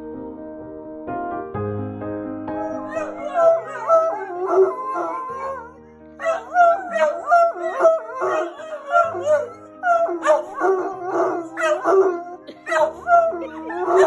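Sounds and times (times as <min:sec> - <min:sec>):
dogs howling: 0:02.6 - 0:14.0.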